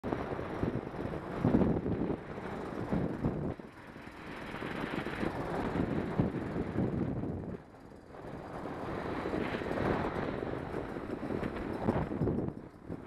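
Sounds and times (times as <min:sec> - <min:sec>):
wind buffeting microphone: 0:00.0 - 0:13.0
dirt bike engine running: 0:00.1 - 0:13.0.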